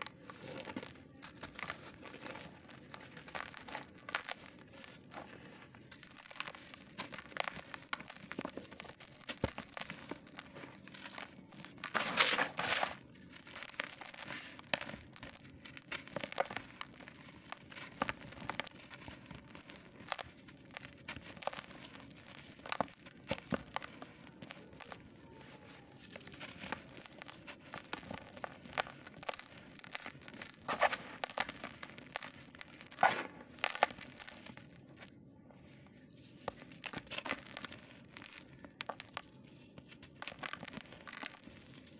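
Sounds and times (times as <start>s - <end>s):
hands crumbling dry earth: 0.0s - 41.9s
powder sifting through fingers: 0.0s - 41.9s.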